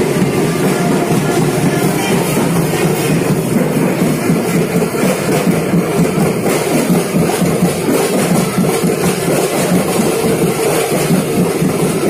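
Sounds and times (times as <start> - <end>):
procession drumming: 0.0 - 12.0.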